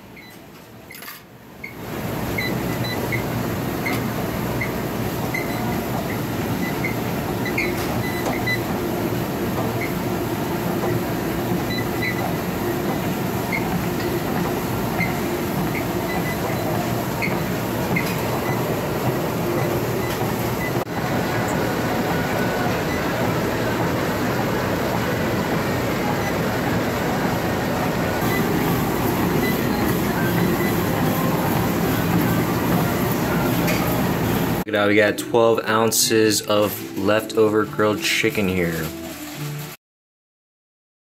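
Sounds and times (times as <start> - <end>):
treadmill belt and motor rumble: 0.0 - 34.7.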